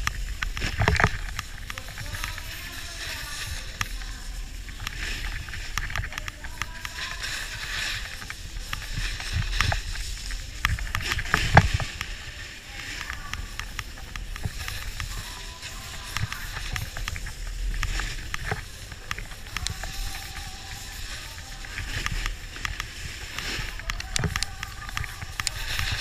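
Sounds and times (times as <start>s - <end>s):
snowboard scraping over snow: 0.0s - 26.0s.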